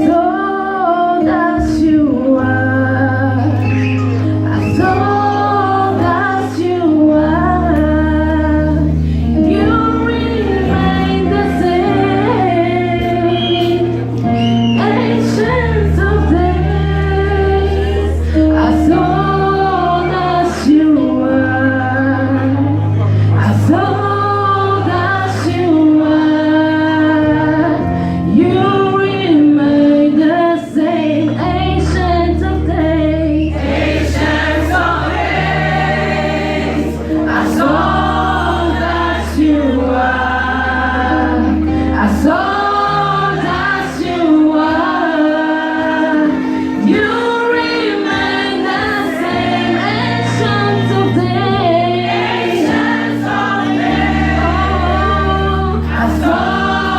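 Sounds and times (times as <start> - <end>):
choir singing gospel: 0.0 - 56.9.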